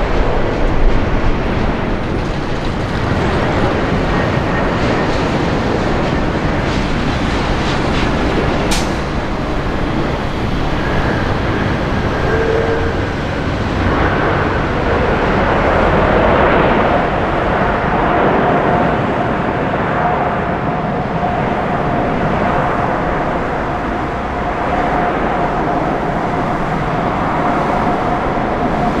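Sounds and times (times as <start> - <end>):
jet engines rumbling: 0.0 - 29.0
steady engine whine: 0.0 - 29.0.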